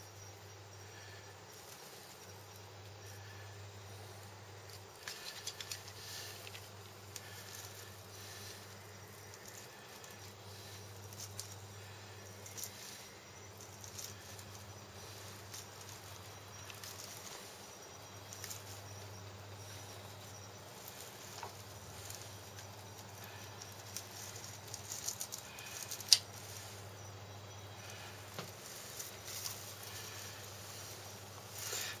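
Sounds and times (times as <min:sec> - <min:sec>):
plastic netting rustling: 0:04.7 - 0:26.9, 0:27.8 - 0:32.0.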